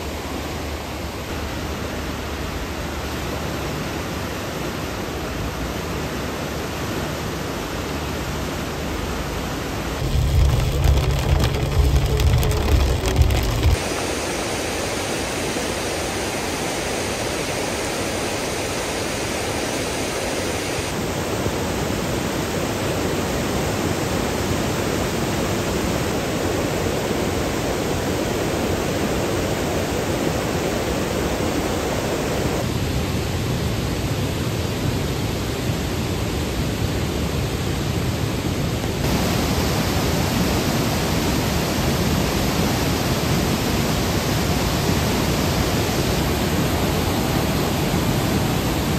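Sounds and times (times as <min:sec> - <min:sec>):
river rushing over boulders: 0:00.0 - 0:32.9, 0:37.8 - 0:48.9.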